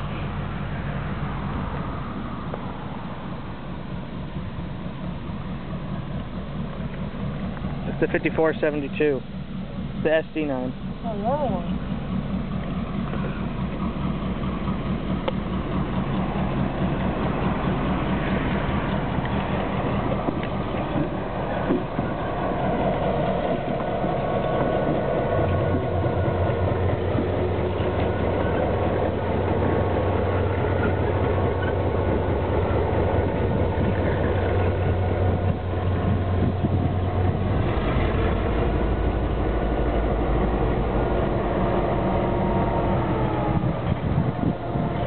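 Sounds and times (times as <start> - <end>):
diesel locomotive engine running: 0.0 - 45.0.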